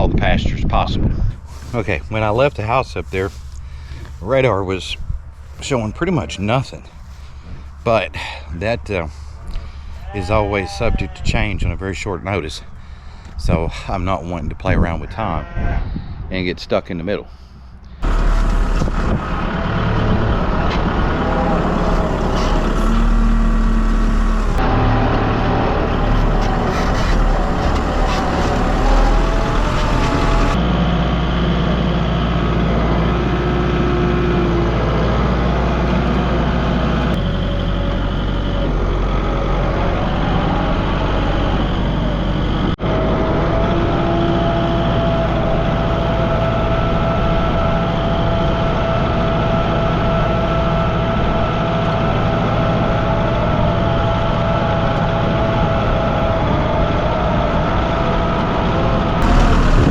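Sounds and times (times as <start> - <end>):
engine whine: 0.0 - 10.0, 17.4 - 59.9
vehicle engine hum: 0.0 - 10.1, 17.3 - 59.9.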